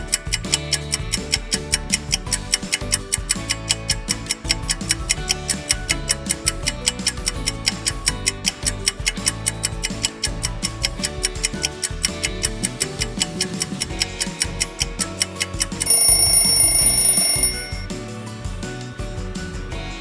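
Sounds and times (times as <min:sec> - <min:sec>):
rapid clock-like ticking: 0:00.0 - 0:17.8
light background music: 0:00.0 - 0:20.0.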